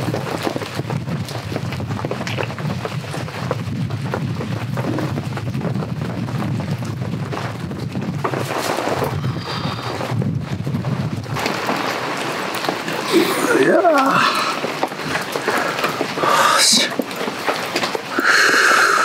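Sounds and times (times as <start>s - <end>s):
heavy rain on a tent: 0.0s - 19.0s.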